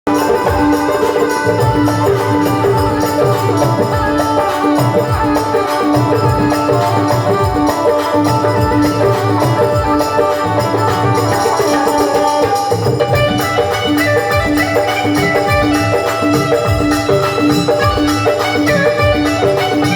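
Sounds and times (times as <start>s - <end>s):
hand drums beating: 0.0s - 19.9s
sustained melodic line: 0.1s - 19.9s.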